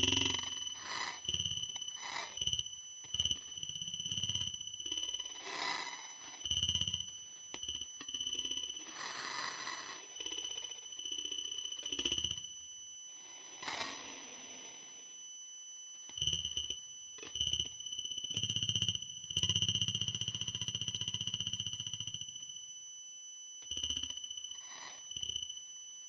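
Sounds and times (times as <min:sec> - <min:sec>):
steady high-pitched whine: 0:00.0 - 0:26.0.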